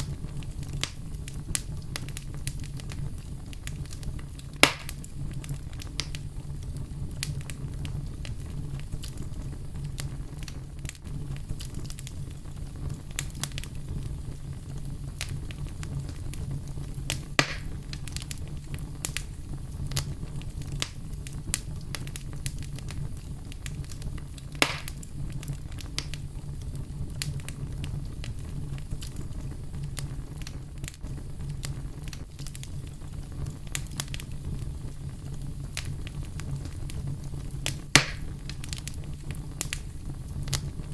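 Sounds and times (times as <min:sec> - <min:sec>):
fire popping: 0:00.0 - 0:40.9
wood fire crackling: 0:00.0 - 0:40.9.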